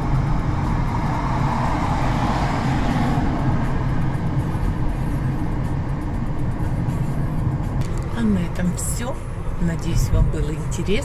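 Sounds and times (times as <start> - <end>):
car road noise from inside: 0.0 - 11.0
rushing swell: 0.0 - 11.0.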